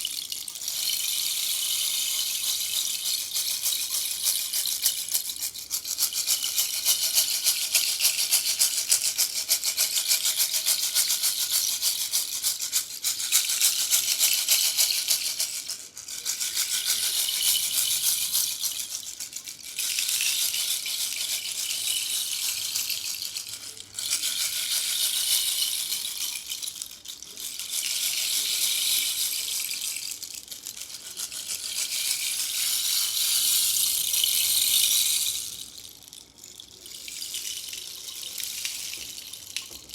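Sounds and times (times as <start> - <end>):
rainstick trickling hiss: 0.0 - 39.9.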